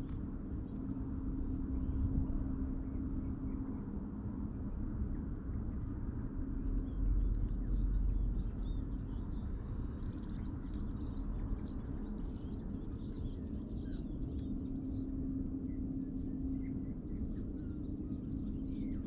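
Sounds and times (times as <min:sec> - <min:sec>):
small songbirds chirping: 0:00.0 - 0:19.0
steady low rumble: 0:00.0 - 0:19.0.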